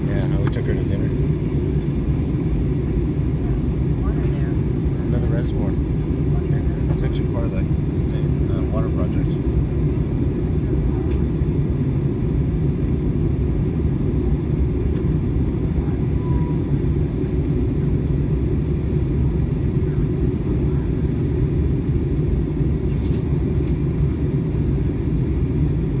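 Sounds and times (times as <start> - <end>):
airplane cabin engine drone: 0.0 - 26.0.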